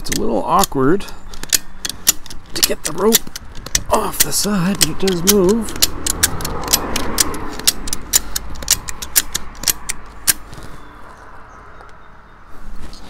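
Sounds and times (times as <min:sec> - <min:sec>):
hand winch pawl clicking: 0:00.0 - 0:10.7.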